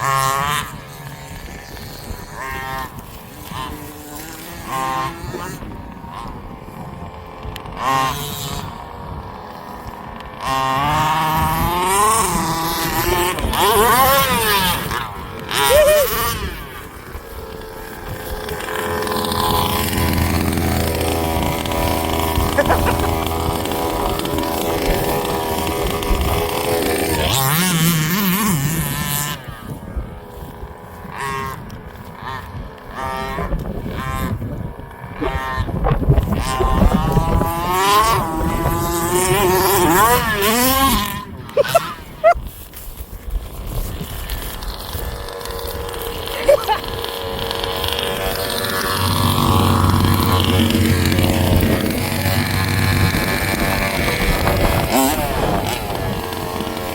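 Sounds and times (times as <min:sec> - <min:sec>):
two-stroke engine revving: 0:00.0 - 0:56.9.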